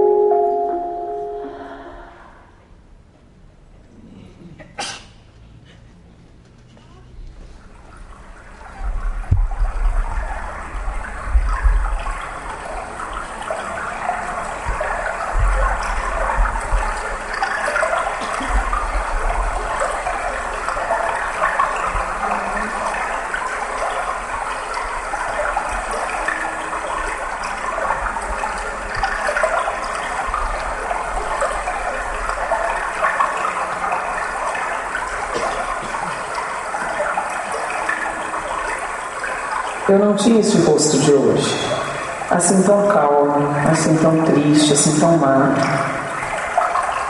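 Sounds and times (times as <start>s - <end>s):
running water: 7.0s - 47.0s.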